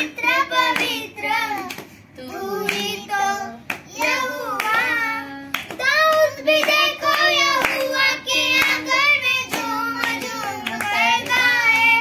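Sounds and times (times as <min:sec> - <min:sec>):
hand clapping: 0:00.0 - 0:02.0, 0:02.6 - 0:03.0, 0:03.6 - 0:12.0
boys singing: 0:00.0 - 0:12.0.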